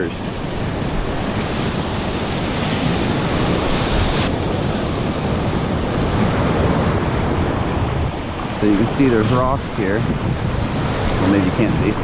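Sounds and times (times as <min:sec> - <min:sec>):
surf washing up sand: 0:00.0 - 0:12.0.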